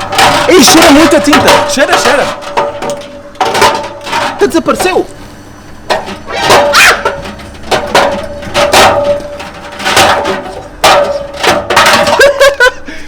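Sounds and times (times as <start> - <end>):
can clattering in spinning drum: 0.0 - 12.8.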